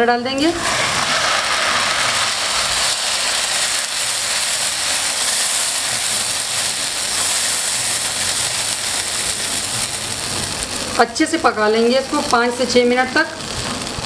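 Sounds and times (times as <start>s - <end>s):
herb paste sizzling in hot oil: 0.3s - 14.0s.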